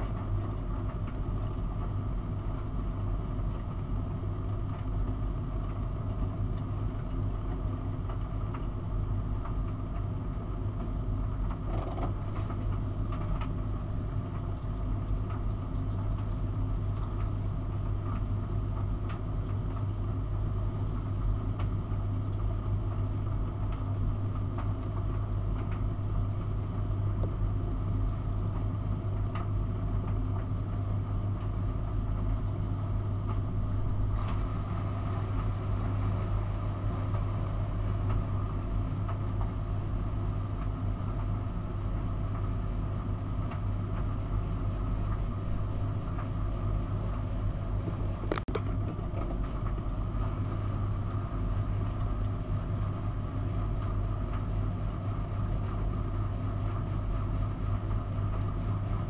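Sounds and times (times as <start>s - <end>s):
tumble dryer running: 0.0s - 10.4s, 16.4s - 59.0s
washing machine turning laundry: 0.0s - 59.0s
low hum: 11.4s - 59.0s.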